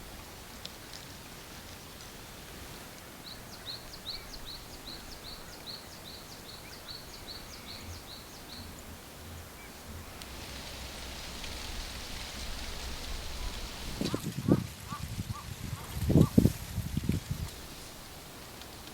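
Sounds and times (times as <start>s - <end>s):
high outdoor hiss: 0.0s - 18.9s.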